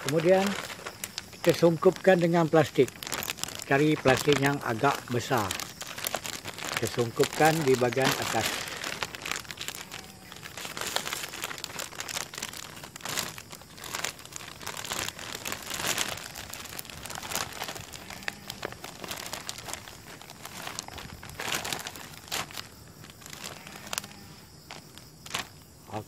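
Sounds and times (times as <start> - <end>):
plastic bag crinkling: 0.0 - 25.6.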